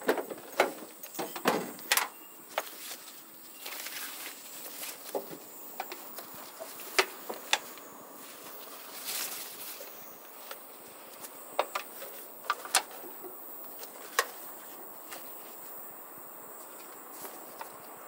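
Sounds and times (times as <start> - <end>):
insect drone: 0.0 - 18.0
rustle: 0.0 - 18.0.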